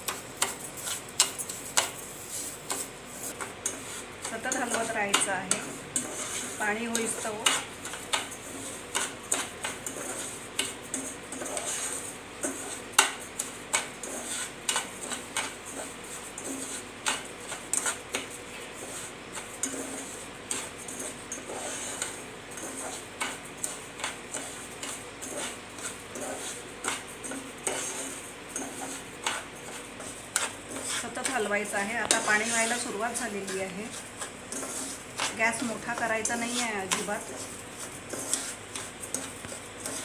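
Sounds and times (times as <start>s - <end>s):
metal spoon scraping saucepan: 3.6s - 40.0s.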